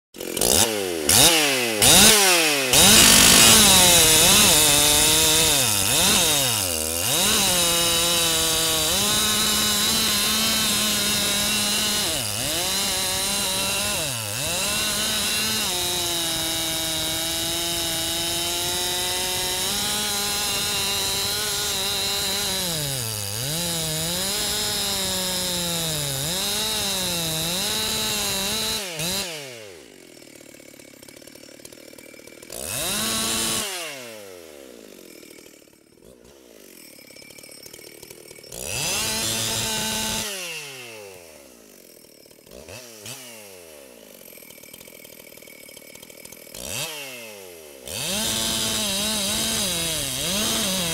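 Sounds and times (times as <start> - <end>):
chainsaw cutting a log: 0.2 - 50.9.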